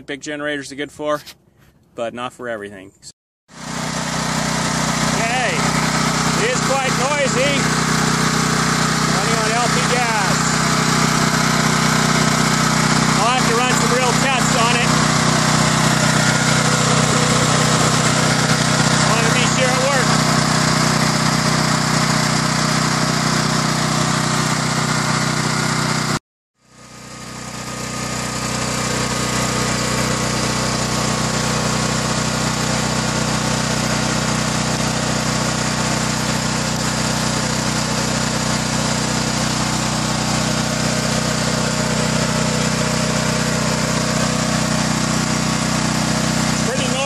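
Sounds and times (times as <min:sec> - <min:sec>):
generator engine running: 0:03.5 - 0:47.0.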